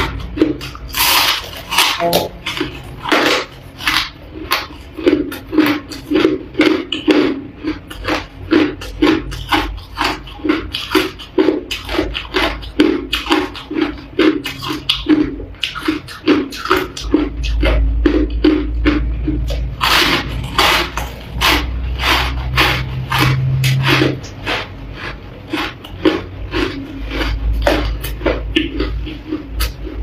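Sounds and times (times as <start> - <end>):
chewing crushed ice: 0.0 - 30.0.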